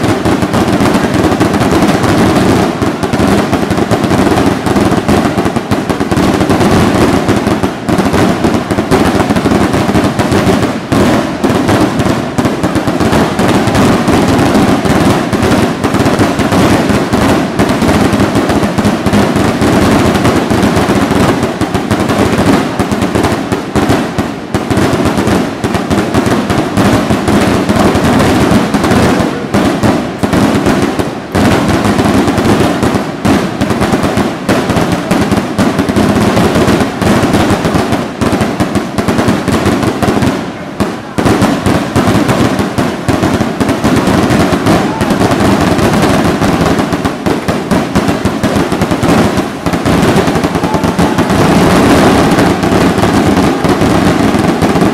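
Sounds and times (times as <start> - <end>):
fireworks bursting and crackling: 0.0 - 54.9.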